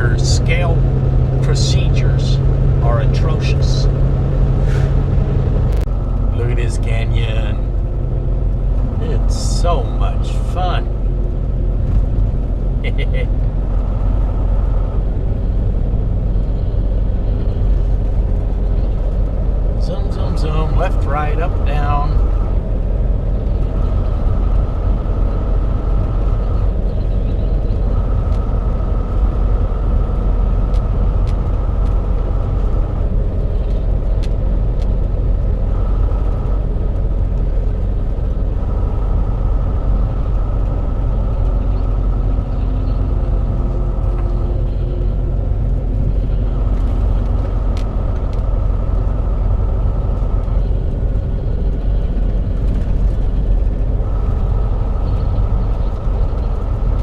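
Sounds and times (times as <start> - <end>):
high whine: 0.0 - 57.0
truck engine and road rumble: 0.0 - 57.0.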